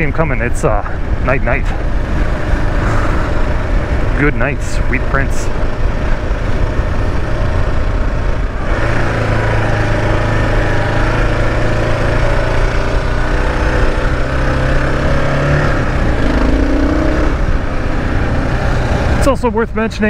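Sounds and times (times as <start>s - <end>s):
motorcycle engine running: 0.0s - 19.5s
low wind rumble: 0.0s - 20.0s.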